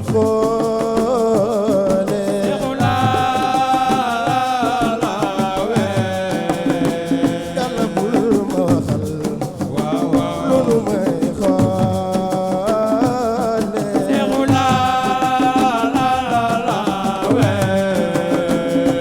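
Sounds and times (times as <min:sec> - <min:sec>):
drum beats: 0:00.0 - 0:19.0.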